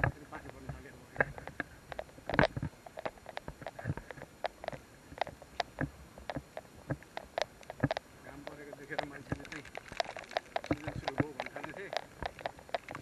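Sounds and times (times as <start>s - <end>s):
sharp taps and clicks: 0.0s - 13.0s.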